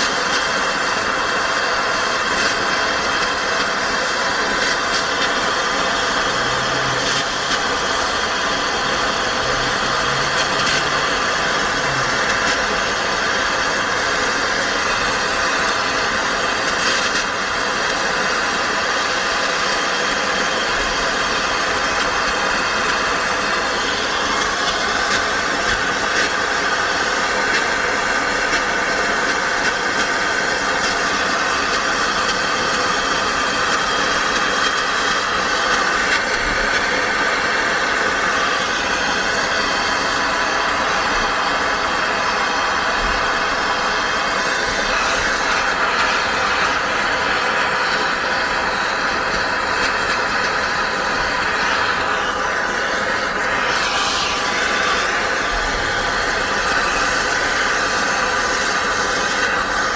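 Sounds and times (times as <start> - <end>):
motor running with hiss: 0.0 - 59.9.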